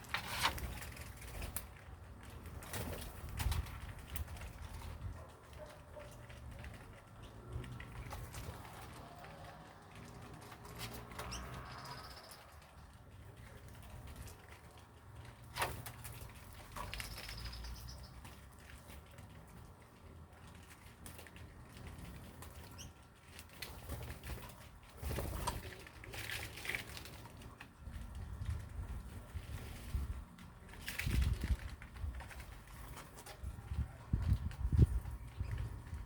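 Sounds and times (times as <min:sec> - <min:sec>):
birds fluttering: 0:00.0 - 0:36.0.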